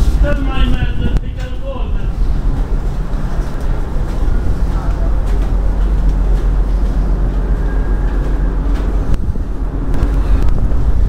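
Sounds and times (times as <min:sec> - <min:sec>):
ship engines rumbling: 0:00.0 - 0:11.0
wind buffeting microphone: 0:00.0 - 0:11.0.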